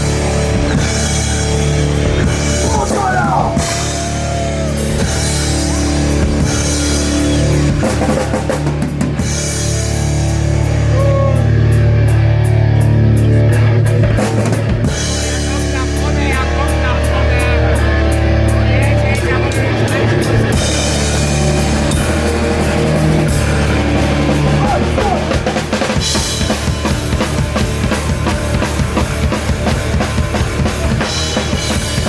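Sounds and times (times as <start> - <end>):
live rock band: 0.0 - 32.0
low bass notes: 0.0 - 32.0.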